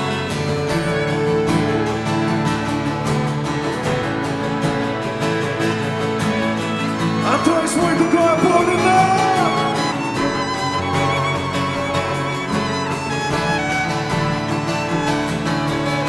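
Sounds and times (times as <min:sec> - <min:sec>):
acoustic guitar chords: 0:00.0 - 0:16.0
higher gliding melody line: 0:00.0 - 0:16.0
string quartet playing chords: 0:00.0 - 0:16.0.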